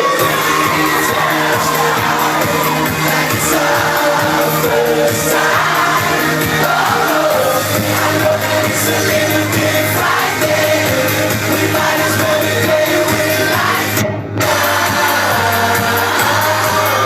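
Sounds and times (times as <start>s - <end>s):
live pop band with singing: 0.0s - 17.0s.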